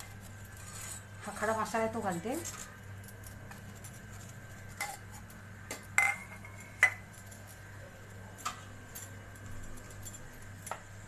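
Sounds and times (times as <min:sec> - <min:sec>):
metal bowls and utensils clinking: 0:00.0 - 0:07.7, 0:08.3 - 0:11.0.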